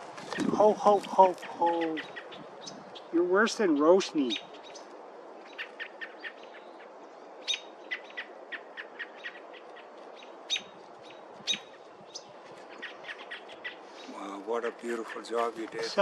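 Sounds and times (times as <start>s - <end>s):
bird chirping: 0.0s - 16.0s
steady background hiss: 0.0s - 16.0s.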